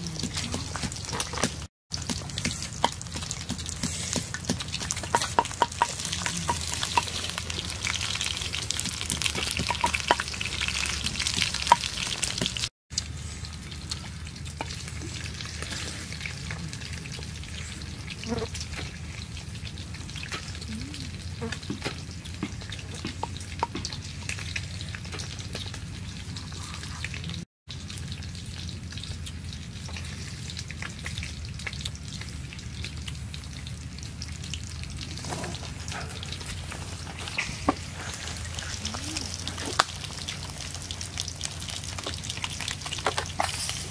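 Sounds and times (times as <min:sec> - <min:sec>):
oil crackling and spitting: 0:00.0 - 0:43.9
fish sizzling in hot oil: 0:00.7 - 0:43.9.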